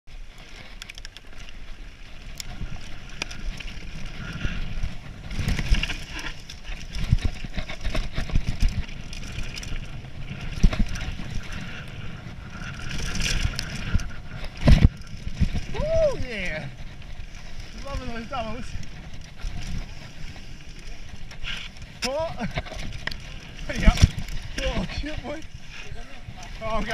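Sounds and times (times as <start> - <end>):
bike knocking and rattling: 0.2 - 26.9
wind buffeting microphone: 2.0 - 26.9.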